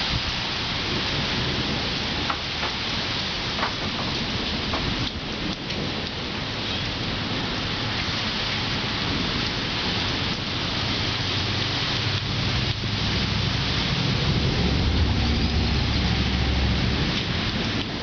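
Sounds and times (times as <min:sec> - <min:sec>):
heavy rain hissing: 0:00.0 - 0:18.0
low rumble of thunder: 0:00.0 - 0:18.0.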